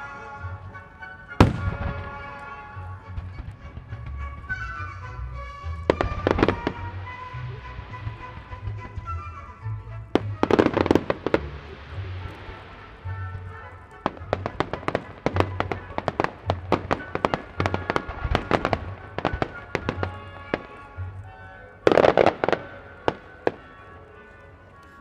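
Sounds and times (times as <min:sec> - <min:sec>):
fireworks bursting: 0:00.0 - 0:25.0
music playing: 0:00.0 - 0:25.0.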